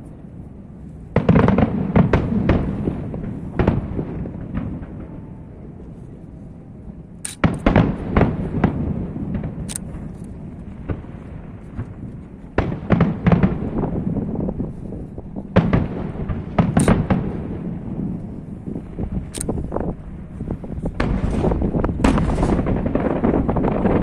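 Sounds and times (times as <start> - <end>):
continuous low rumble: 0.0 - 24.0
fireworks booms and cracks: 1.1 - 5.6, 7.3 - 24.0.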